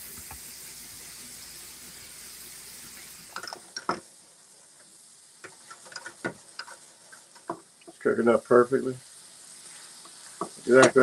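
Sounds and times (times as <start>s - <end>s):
apples sizzling in a skillet: 0.0s - 11.0s.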